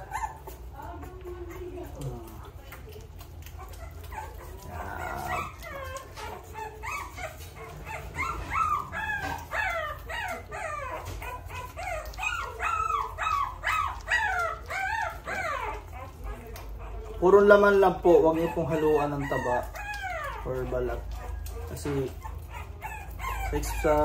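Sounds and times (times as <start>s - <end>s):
puppy whimpering and crying: 0.0s - 2.4s, 3.4s - 24.0s.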